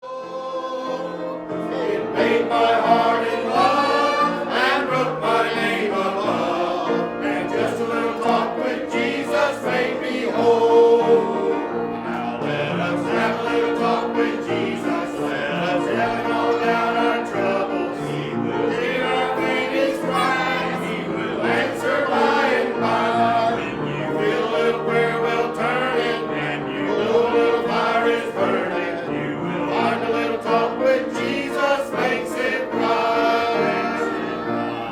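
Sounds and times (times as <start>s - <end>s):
congregation singing a hymn: 0.0s - 34.9s.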